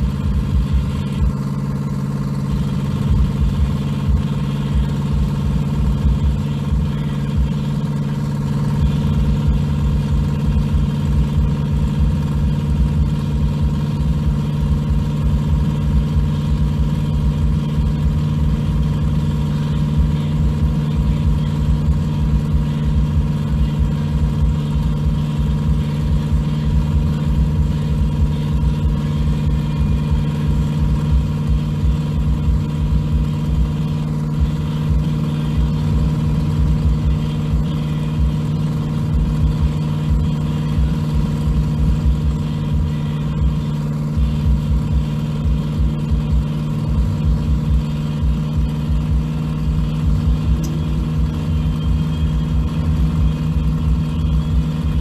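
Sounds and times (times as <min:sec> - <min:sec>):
low engine rumble: 0:00.0 - 0:55.0
truck engine droning: 0:00.0 - 0:55.0.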